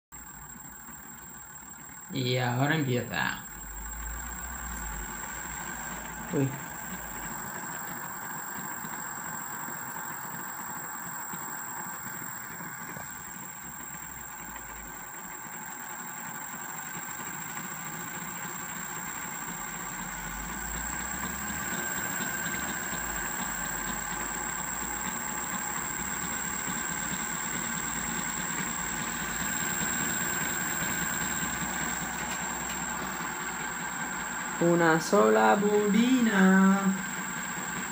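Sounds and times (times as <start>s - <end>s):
motor high whine: 0.0s - 37.9s
motor humming: 0.2s - 37.9s.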